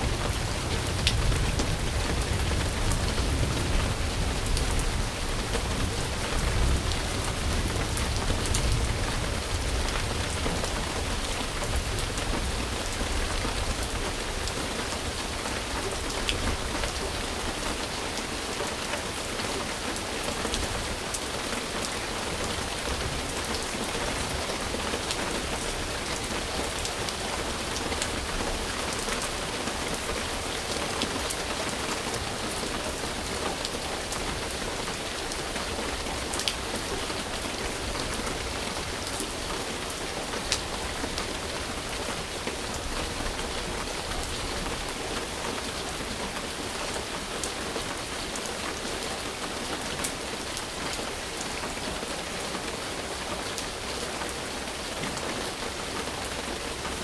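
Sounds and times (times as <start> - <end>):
dense rain falling: 0.0 - 57.0.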